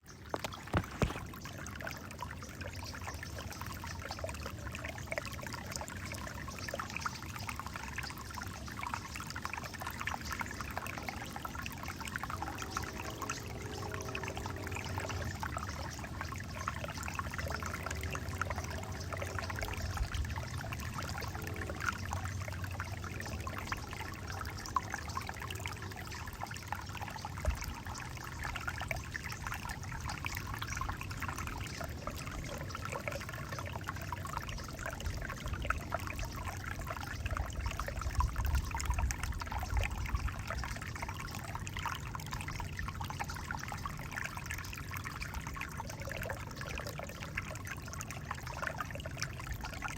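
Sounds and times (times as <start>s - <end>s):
stream trickling over rocks: 0.0s - 49.9s.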